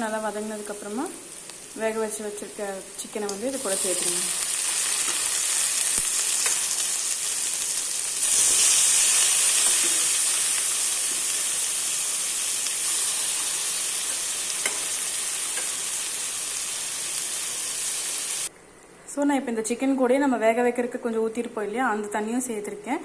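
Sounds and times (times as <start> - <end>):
onions sizzling in butter: 0.0 - 18.5.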